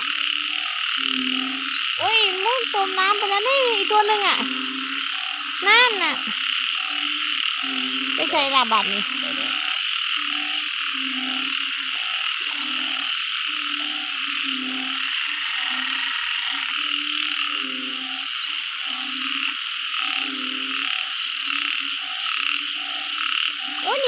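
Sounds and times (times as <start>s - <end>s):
frogs calling: 0.0s - 24.0s.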